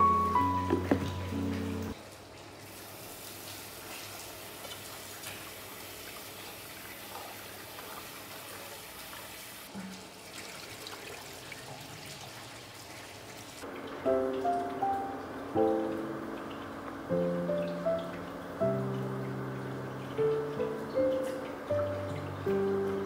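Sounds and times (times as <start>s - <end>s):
tap water rushing into metal pot: 0.4s - 22.8s.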